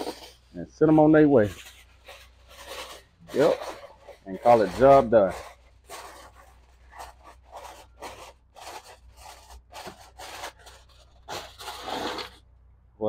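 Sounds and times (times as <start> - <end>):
aluminum foil crinkling: 0.0 - 12.4.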